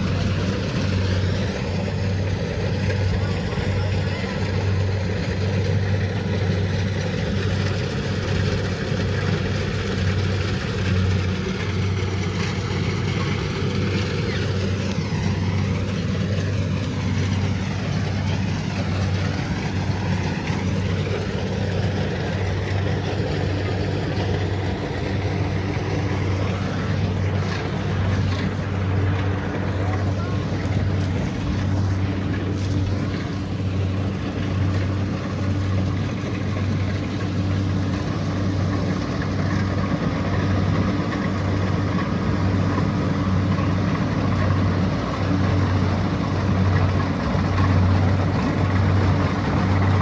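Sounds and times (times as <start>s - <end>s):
diesel engine drone: 0.0s - 50.0s
machinery noise: 0.0s - 50.0s.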